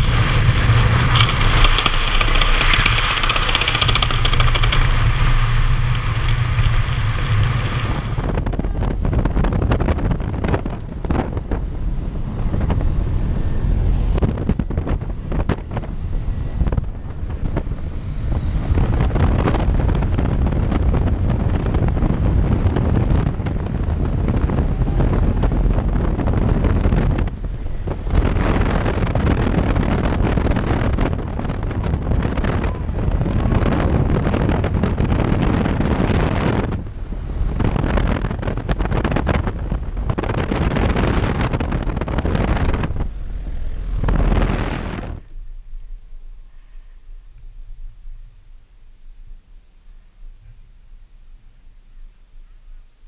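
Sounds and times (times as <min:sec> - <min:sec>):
rushing air: 0:00.0 - 0:51.7
small plane engine drone: 0:00.0 - 0:53.0
wind on microphone: 0:00.0 - 0:53.0.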